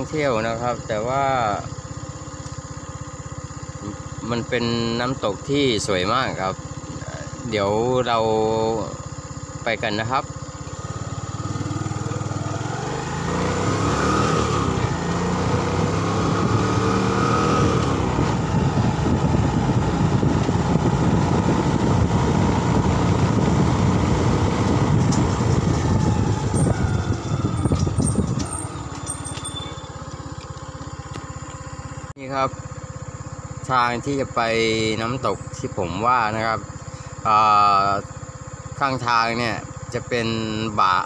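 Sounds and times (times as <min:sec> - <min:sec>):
motorcycle engine: 0:00.0 - 0:41.0.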